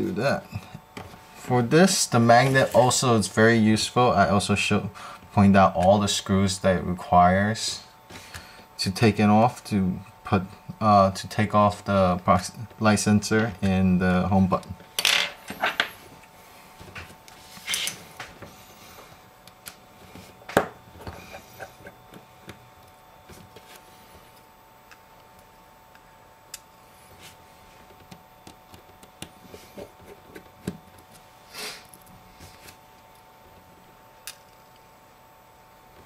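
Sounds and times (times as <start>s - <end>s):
faint steady whine: 0.0s - 36.0s.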